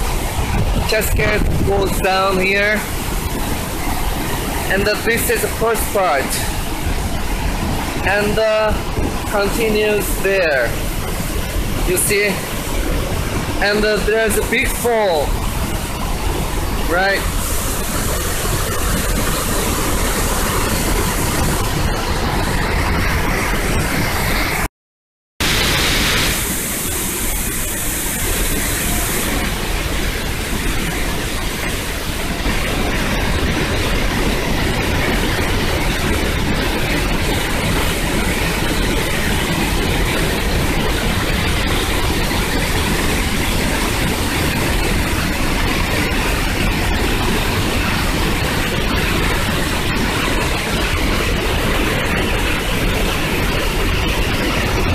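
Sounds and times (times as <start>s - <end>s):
waterfall rushing: 0.0s - 24.7s, 25.4s - 54.9s.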